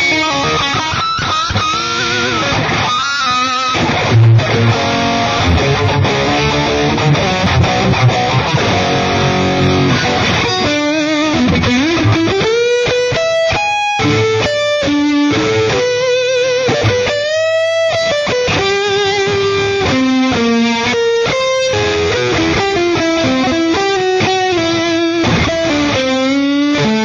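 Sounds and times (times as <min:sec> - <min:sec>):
electric guitar playing: 0:00.0 - 0:27.0.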